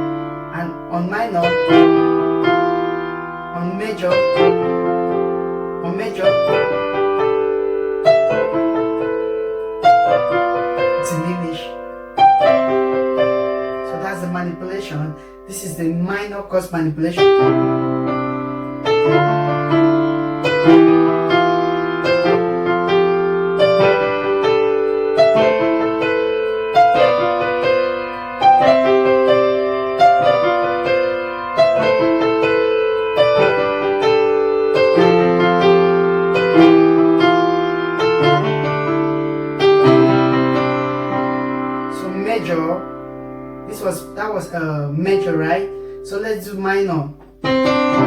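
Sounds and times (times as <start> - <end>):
piano chords: 0.0 - 48.0.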